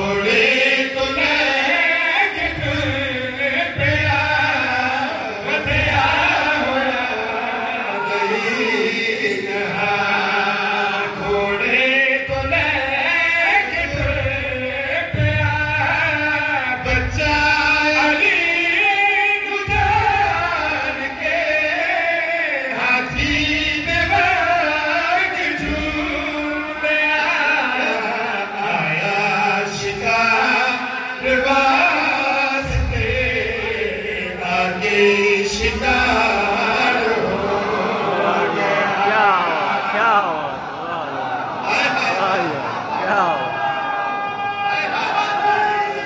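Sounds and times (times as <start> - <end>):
men singing devotional song: 0.0 - 46.0.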